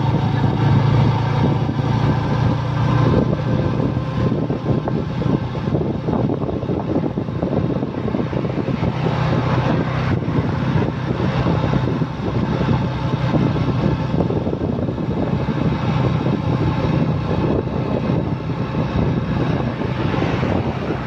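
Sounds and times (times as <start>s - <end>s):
engine hum: 0.0s - 21.0s
road and wind noise: 0.0s - 21.0s.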